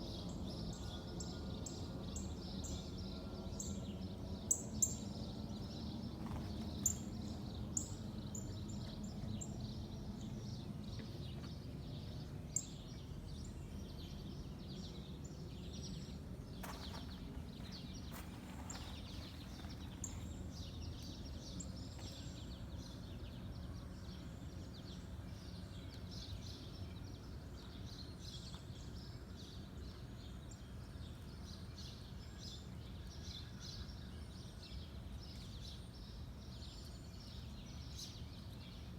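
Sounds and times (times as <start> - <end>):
low outdoor hum: 0.0 - 38.9
small birds chirping: 0.0 - 38.9.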